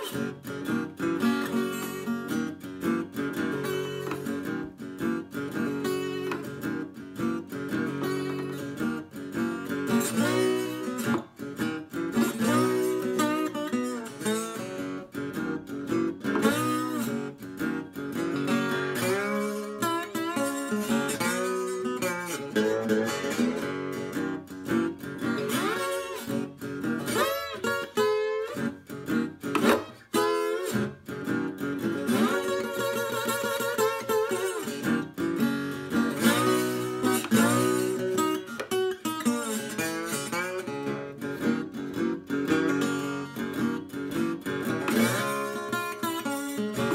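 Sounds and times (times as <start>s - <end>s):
slide guitar blues fingerpicking: 0.0s - 46.9s.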